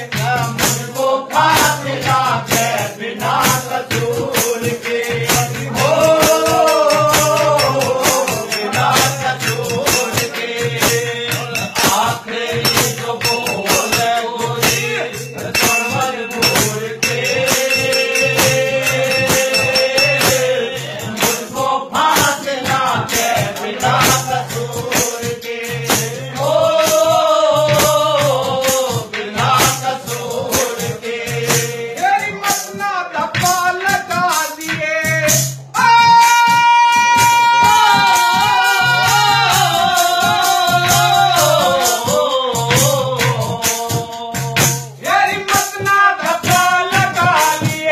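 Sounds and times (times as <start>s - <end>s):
rhythmic percussion: 0.0s - 47.9s
man singing folk song: 3.2s - 26.5s, 31.4s - 47.9s.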